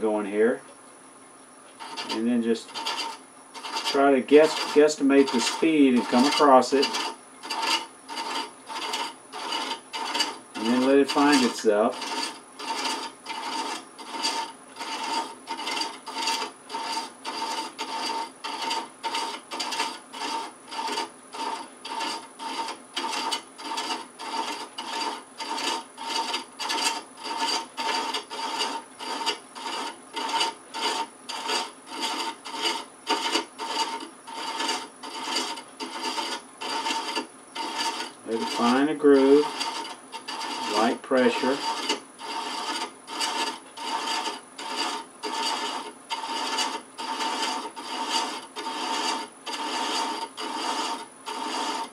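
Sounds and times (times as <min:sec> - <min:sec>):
lathe spinning: 0:01.7 - 0:51.9
thread chaser rasping on wood: 0:01.8 - 0:51.9.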